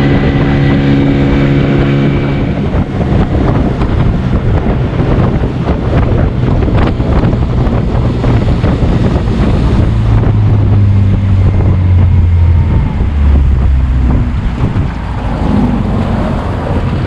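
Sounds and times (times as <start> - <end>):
boat motor hum: 0.0 - 17.0
wind buffeting microphone: 0.0 - 17.0.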